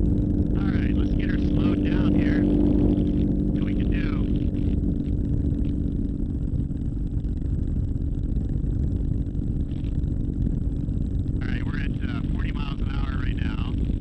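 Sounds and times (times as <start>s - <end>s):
aircraft engine and propeller: 0.0s - 14.0s
wind rush on microphone: 0.0s - 14.0s.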